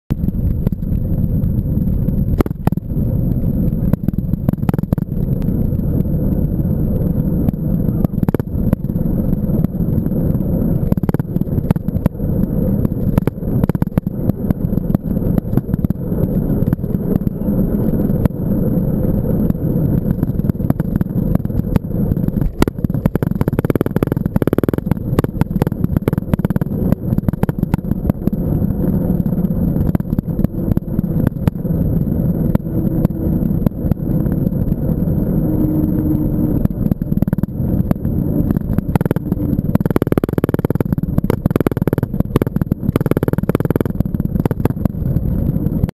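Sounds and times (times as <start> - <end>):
wind rushing over microphone: 0.0 - 45.9
bike rattling and knocking: 0.1 - 45.9.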